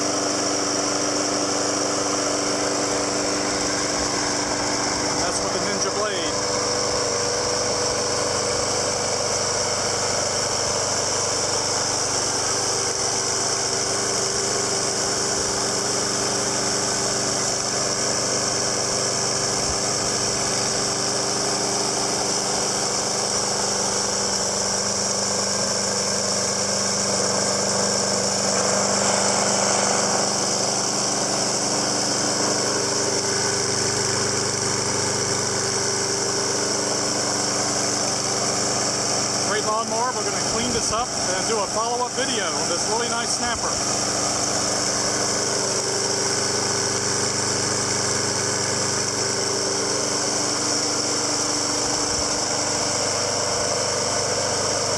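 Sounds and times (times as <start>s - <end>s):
lawn mower engine running: 0.0s - 54.9s.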